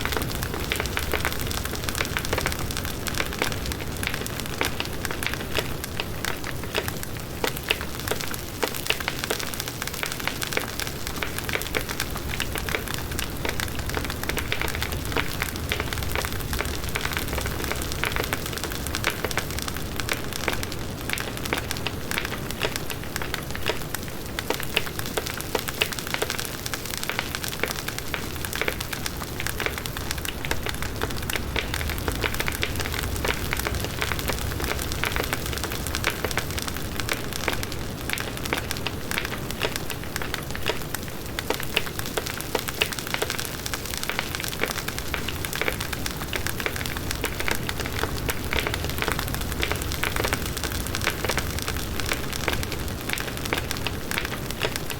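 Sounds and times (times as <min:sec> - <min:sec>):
bonfire crackling: 0:00.0 - 0:54.9.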